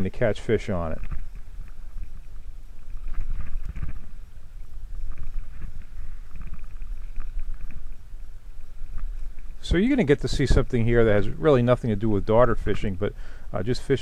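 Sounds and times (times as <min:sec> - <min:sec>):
water lapping and sloshing: 0:00.0 - 0:13.0
wind rumble on microphone: 0:00.9 - 0:13.1.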